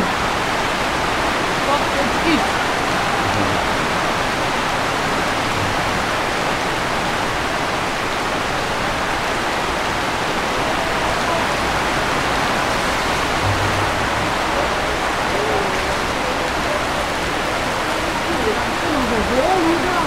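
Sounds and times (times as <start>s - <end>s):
heavy rain on roof and pavement: 0.0s - 20.0s
runoff streaming off roof: 0.0s - 20.0s.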